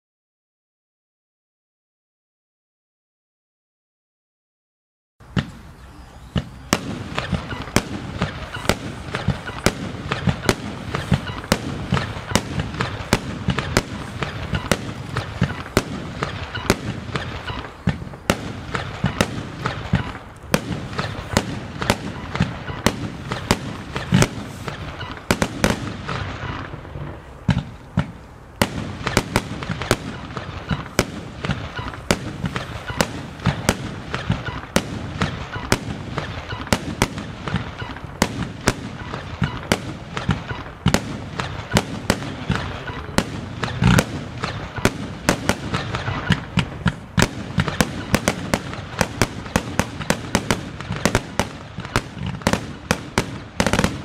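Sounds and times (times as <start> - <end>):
firework bangs: 5.2 - 54.0
firework hiss and crackle: 5.2 - 54.0.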